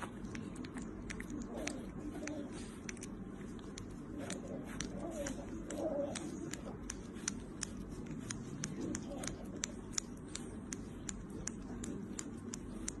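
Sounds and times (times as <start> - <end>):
low murmur: 0.0 - 13.0.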